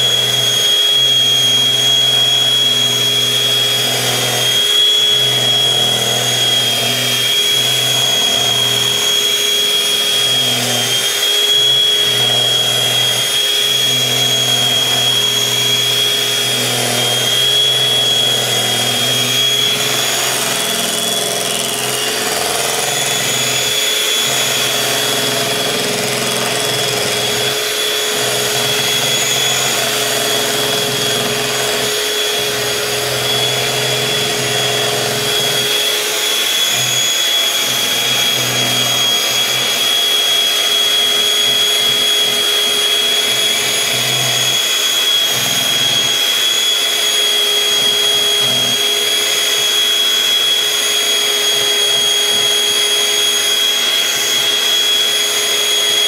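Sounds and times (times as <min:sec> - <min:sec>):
electric hand mixer whirring: 0:00.0 - 0:56.0.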